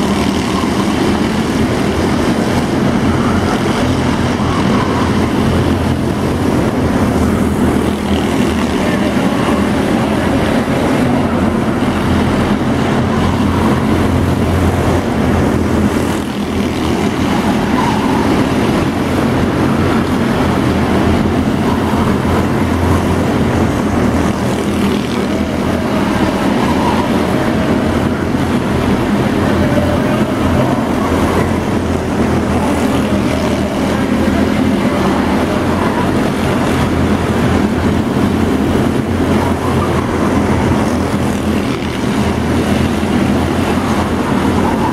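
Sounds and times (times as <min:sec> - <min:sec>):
racing car engines droning: 0:00.0 - 0:44.9.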